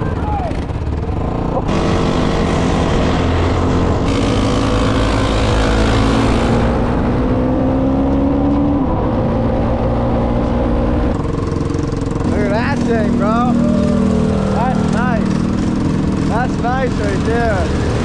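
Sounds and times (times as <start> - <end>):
quad engines running: 0.0 - 18.0.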